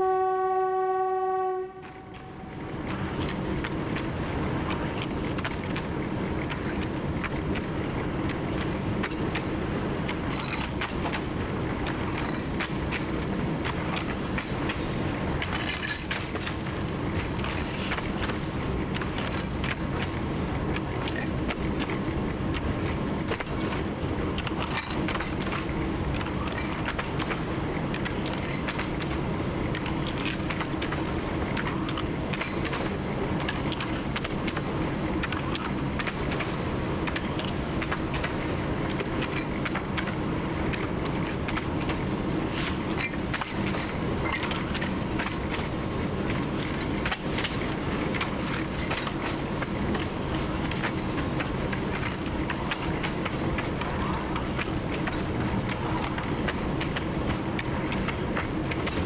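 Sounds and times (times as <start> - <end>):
diesel locomotive engine drone: 0.0 - 59.0
wheels clicking on track: 1.4 - 59.0.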